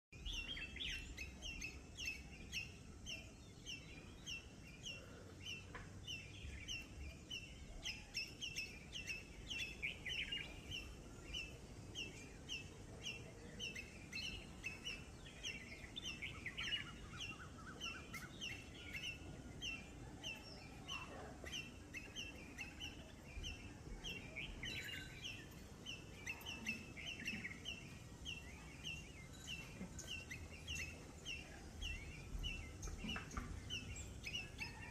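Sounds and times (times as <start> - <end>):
other birds chirping and trilling: 0.2 - 34.9.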